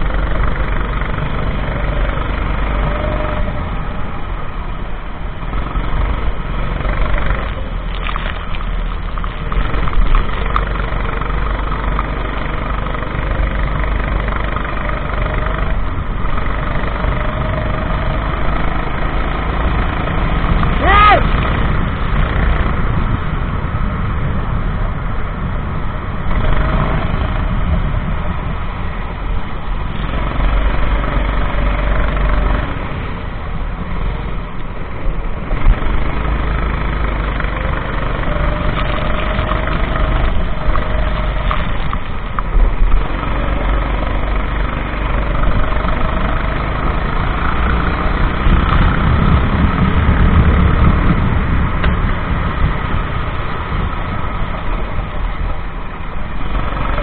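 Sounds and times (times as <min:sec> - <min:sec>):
heavy steady rumble: 0:00.0 - 0:57.0
racing kart engine: 0:00.0 - 0:57.0.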